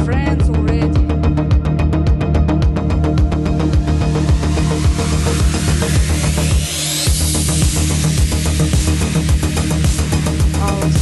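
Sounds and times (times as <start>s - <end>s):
fast electronic beat: 0.0s - 11.0s.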